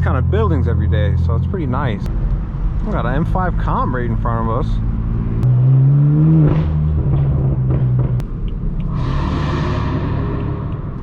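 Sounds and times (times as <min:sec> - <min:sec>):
car exhaust droning: 0:00.0 - 0:11.0.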